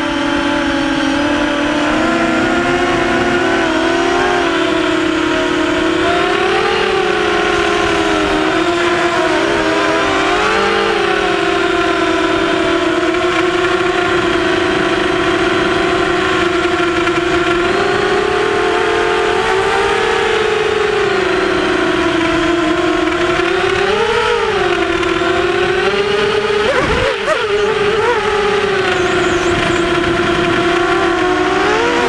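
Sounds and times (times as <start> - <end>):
drone motors and propellers whining: 0.0 - 32.0.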